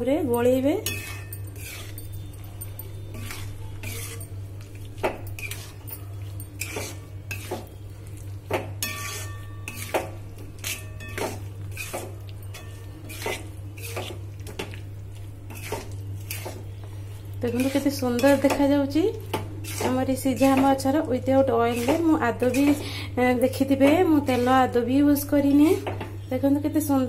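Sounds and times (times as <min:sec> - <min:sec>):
metal spatula scraping wok: 0:00.8 - 0:02.4, 0:03.0 - 0:04.4, 0:05.2 - 0:07.7, 0:08.8 - 0:14.6, 0:15.4 - 0:26.0.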